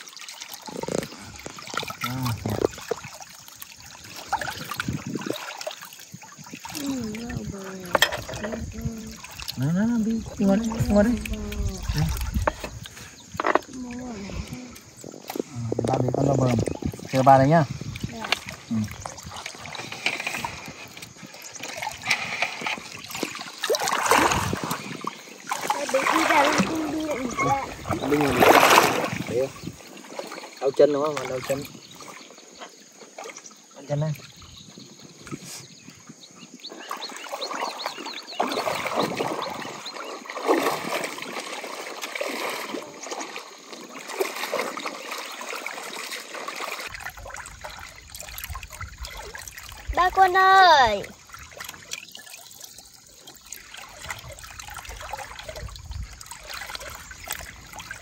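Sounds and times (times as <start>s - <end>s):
feet splashing in water: 0.0s - 58.0s
river water trickling: 0.0s - 58.0s.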